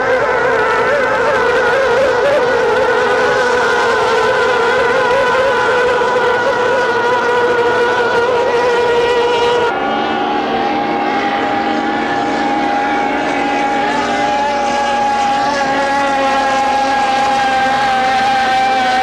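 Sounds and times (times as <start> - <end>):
racing outboard engines at high revs: 0.0 - 19.0.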